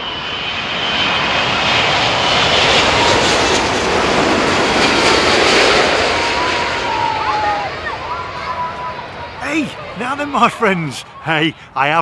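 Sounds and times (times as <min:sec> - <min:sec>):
jet airliner flying low overhead: 0:00.0 - 0:10.0.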